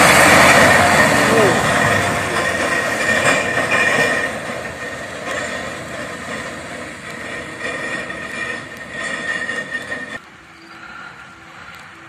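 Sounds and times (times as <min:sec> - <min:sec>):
diesel truck engine: 0:00.0 - 0:10.2
high whine: 0:00.0 - 0:10.8.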